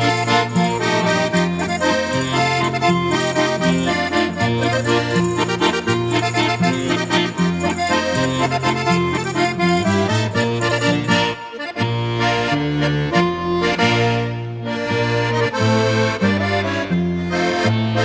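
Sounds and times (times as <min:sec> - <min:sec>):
accordion melody: 0:00.0 - 0:18.0
strummed guitar: 0:00.0 - 0:18.0.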